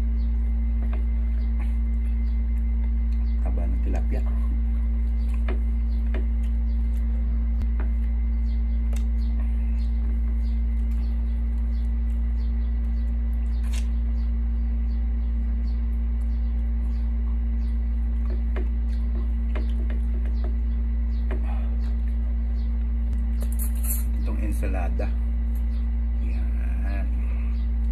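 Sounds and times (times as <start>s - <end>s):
people eating with hands: 0.0s - 3.5s, 4.3s - 24.2s
constant tone: 0.0s - 27.9s
low electrical hum: 0.0s - 27.9s.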